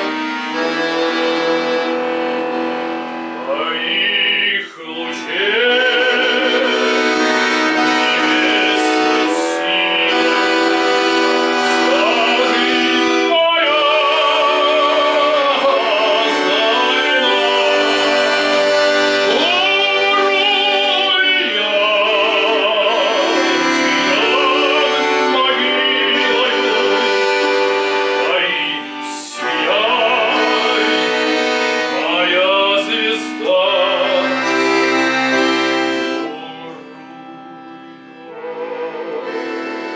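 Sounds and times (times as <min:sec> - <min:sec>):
person singing with vibrato: 0:00.0 - 0:37.1, 0:38.1 - 0:39.9
sustained instrumental accompaniment: 0:00.0 - 0:39.9.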